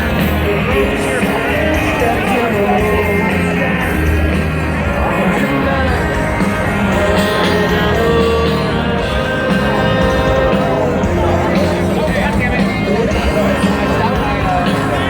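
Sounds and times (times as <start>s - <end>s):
live rock band: 0.0s - 15.0s
man singing: 0.0s - 15.0s.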